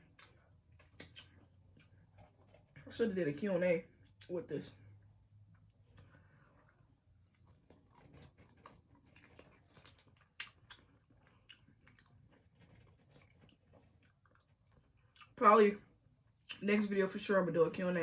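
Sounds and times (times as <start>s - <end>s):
person chewing food: 0.0s - 2.9s, 3.9s - 16.6s.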